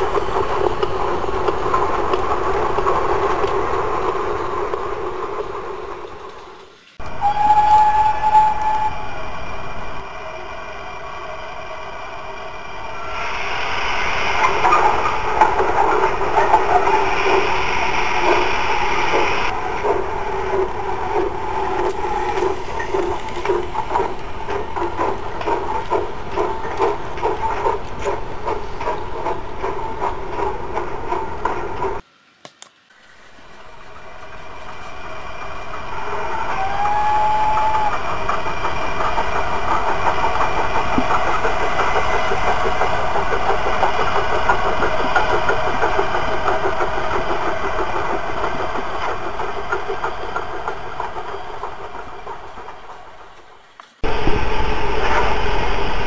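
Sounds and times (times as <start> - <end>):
model trains running on track: 0.0 - 56.0.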